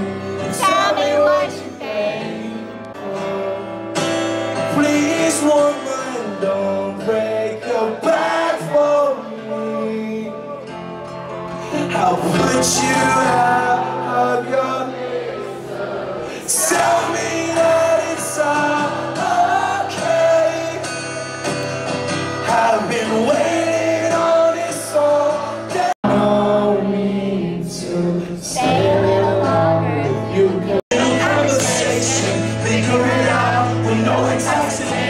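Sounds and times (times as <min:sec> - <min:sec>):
man singing over chords: 0:00.0 - 0:11.1, 0:11.7 - 0:15.4, 0:16.2 - 0:21.5, 0:22.2 - 0:35.0
crowd singing along: 0:00.0 - 0:35.0.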